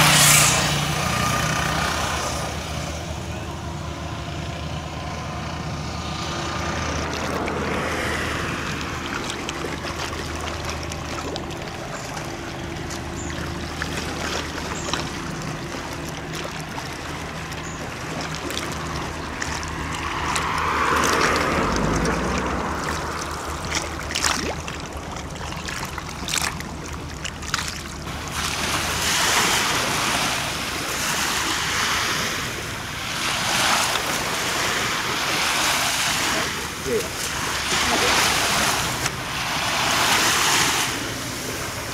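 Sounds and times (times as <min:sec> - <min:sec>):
low engine hum: 0:00.0 - 0:41.9
small waves washing ashore: 0:00.0 - 0:41.9.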